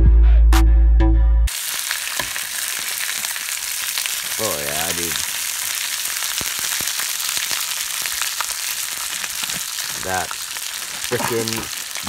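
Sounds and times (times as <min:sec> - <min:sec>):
fish sizzling in oil: 0:01.5 - 0:12.0.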